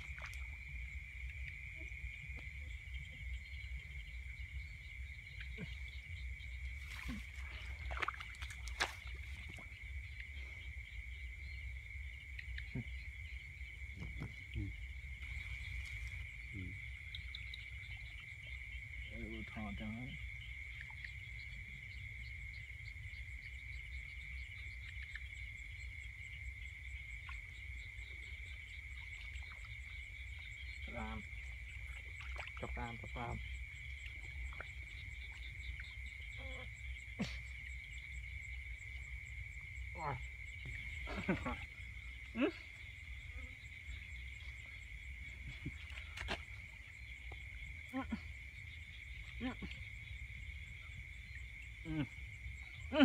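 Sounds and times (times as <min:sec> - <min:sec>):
crickets trilling: 0:00.0 - 0:53.0
insect chirping: 0:00.0 - 0:53.0.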